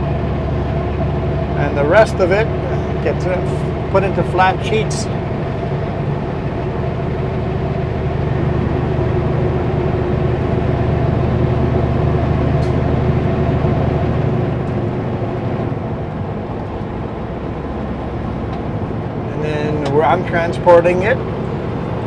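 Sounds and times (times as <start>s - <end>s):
road and wind noise: 0.0s - 22.0s
truck engine drone: 0.0s - 22.0s.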